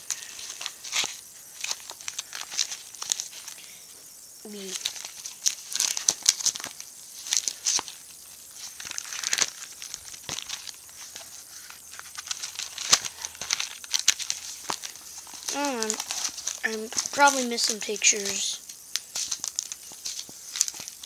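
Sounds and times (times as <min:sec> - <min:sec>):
photos and pages rustling: 0:00.0 - 0:21.0.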